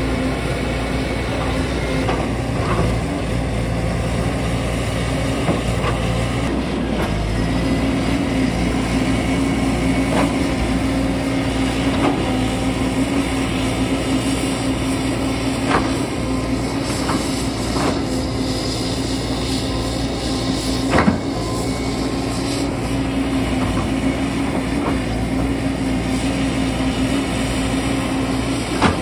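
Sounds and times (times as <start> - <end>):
excavator diesel engine drone: 0.0 - 29.0.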